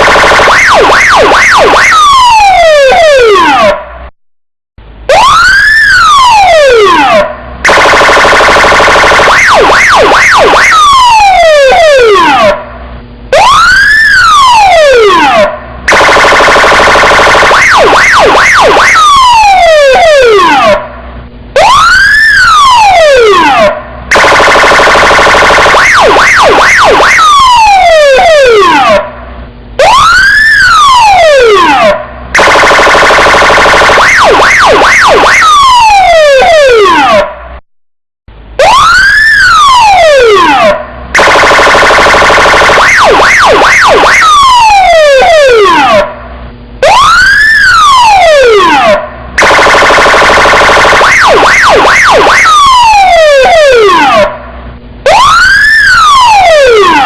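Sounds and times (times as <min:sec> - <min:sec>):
electronic police siren: 0:00.0 - 0:04.0, 0:05.1 - 0:37.6, 0:38.5 - 0:57.0.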